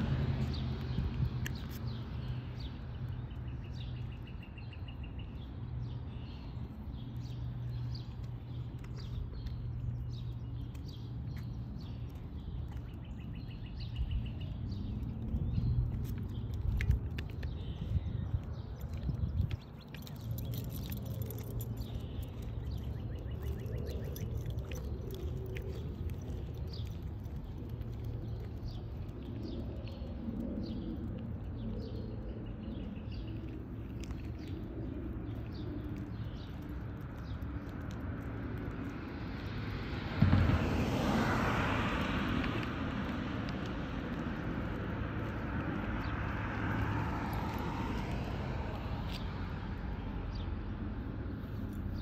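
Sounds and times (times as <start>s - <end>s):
low traffic rumble: 0.0s - 52.0s
small chirps and ticks: 0.4s - 39.9s, 42.3s - 49.3s.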